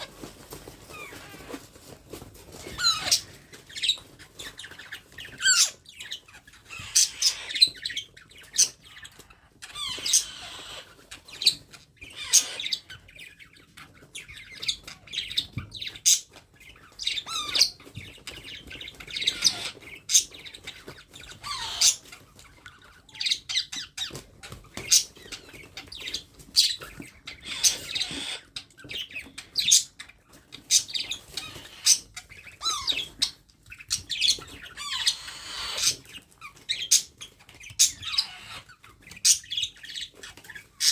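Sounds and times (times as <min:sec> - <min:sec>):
baby parrot chirping and squawking: 0:00.0 - 0:40.9.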